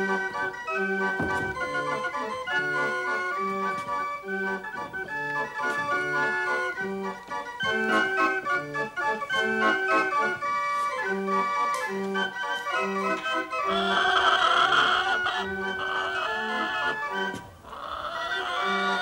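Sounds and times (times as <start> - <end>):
barrel organ playing a lively tune: 0.0 - 19.0.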